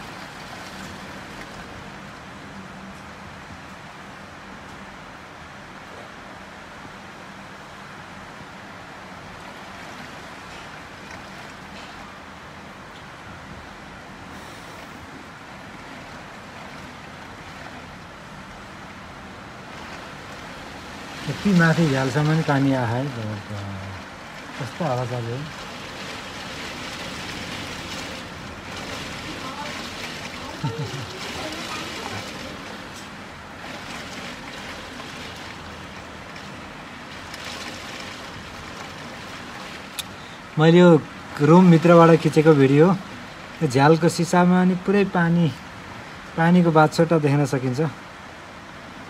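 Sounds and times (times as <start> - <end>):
torrential rain in strong wind: 0.0 - 49.0.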